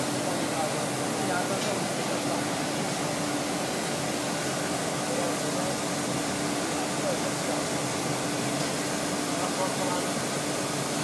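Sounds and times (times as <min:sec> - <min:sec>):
roaring hiss of machinery: 0:00.0 - 0:11.0.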